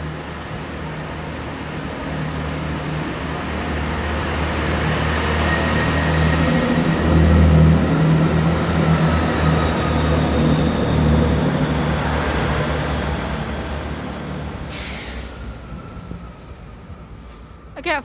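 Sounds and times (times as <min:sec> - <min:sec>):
diesel train engines: 0:00.0 - 0:18.0.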